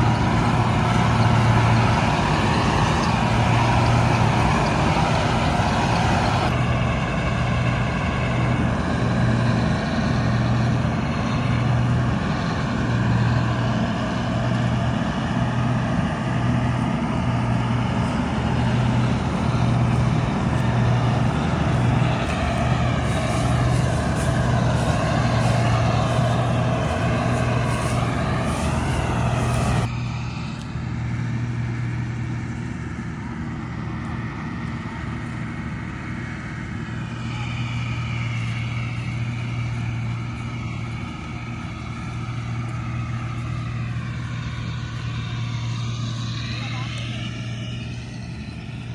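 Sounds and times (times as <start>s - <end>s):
combine harvester engine drone: 0.0s - 48.9s
mechanical whine: 0.0s - 48.9s.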